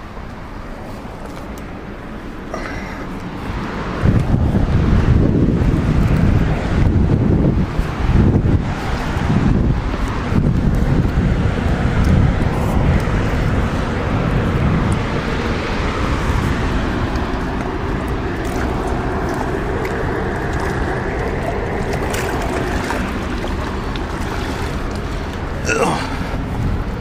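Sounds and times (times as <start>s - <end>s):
churning water below a dam: 0.0s - 27.0s
wind buffeting microphone: 0.0s - 27.0s.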